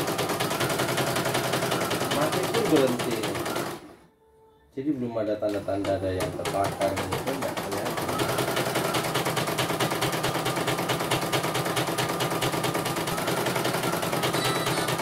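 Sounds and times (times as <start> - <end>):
embroidery machine needle clatter: 0.0 - 3.8, 5.5 - 15.0.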